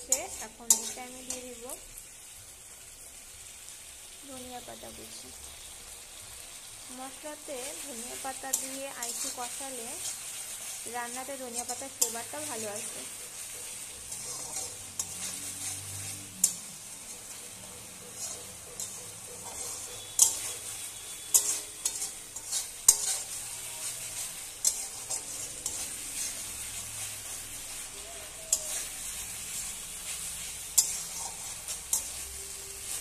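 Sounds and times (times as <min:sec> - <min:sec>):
spatula scraping a pan: 0:00.0 - 0:01.8, 0:07.4 - 0:33.0
spice paste sizzling in a wok: 0:00.0 - 0:33.0.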